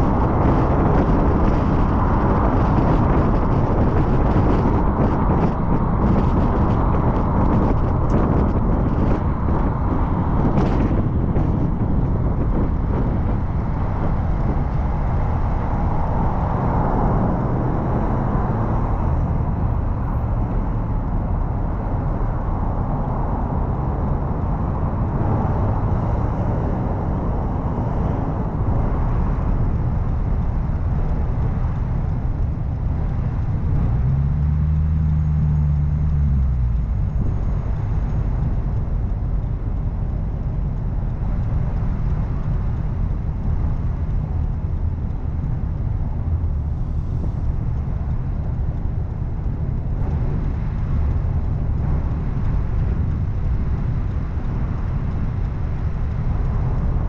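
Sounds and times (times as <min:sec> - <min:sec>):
car rumbling in traffic: 0:00.0 - 0:57.0.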